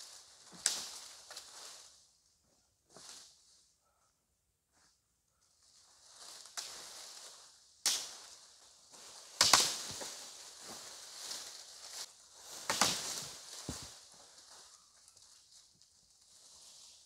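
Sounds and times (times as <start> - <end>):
dry leaves and branches rustling: 0.0 - 2.3, 5.5 - 17.0.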